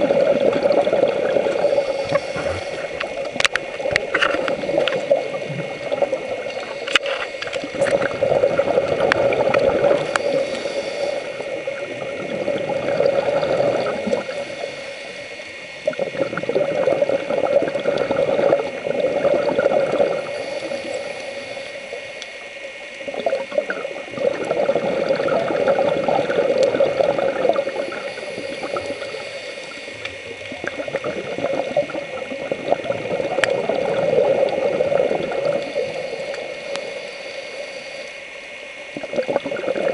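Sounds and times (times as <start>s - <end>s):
scuba regulator breathing bubbles: 0.0s - 22.3s, 23.1s - 38.3s, 39.0s - 39.9s
faint high whine: 0.0s - 39.9s.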